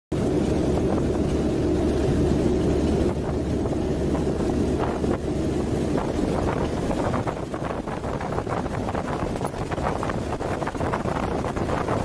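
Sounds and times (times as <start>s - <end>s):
aircraft engines droning: 0.1s - 12.0s
rushing wind-like noise: 0.1s - 12.0s.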